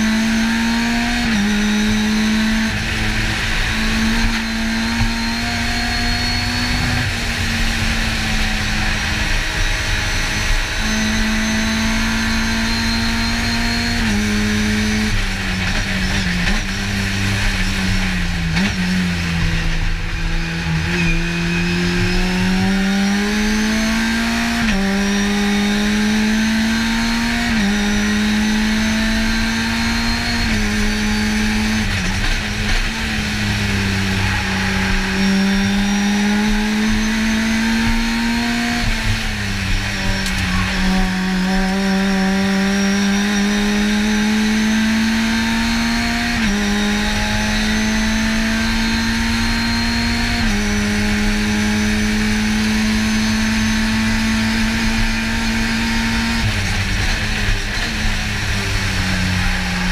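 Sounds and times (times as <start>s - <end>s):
racing car engine at high revs: 0.0s - 59.9s
wind and road noise: 0.0s - 59.9s.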